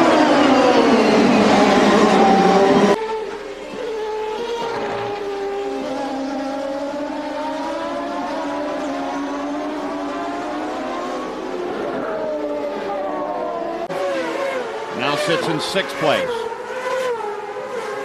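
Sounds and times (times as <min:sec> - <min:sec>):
race car engines at high revs: 0:00.0 - 0:18.0.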